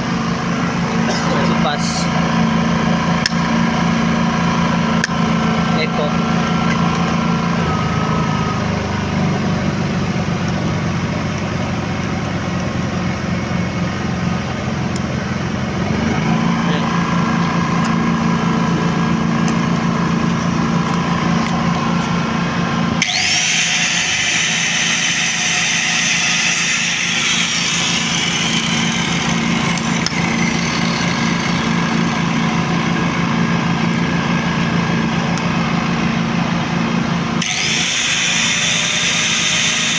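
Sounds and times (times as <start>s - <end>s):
angle grinder whine: 0.0s - 39.9s
generator engine hum: 0.0s - 39.9s.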